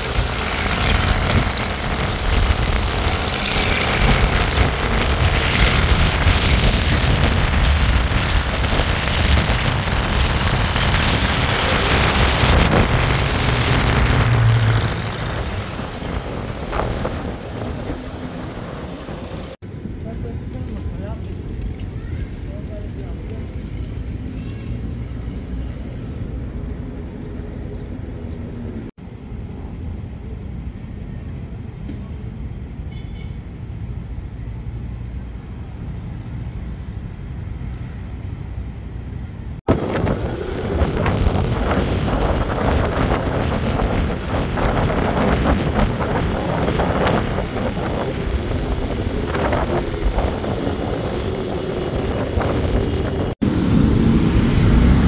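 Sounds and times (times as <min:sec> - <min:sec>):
distant traffic rumble: 0:00.0 - 0:55.0
road traffic noise: 0:00.0 - 0:55.0.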